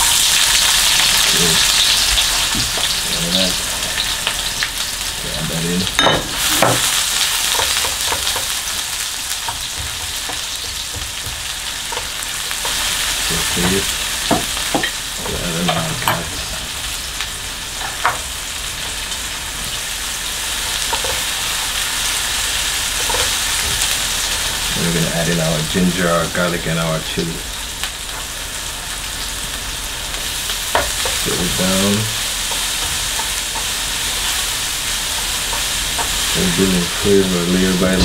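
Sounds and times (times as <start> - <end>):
vegetables sizzling in hot oil: 0.0 - 38.0.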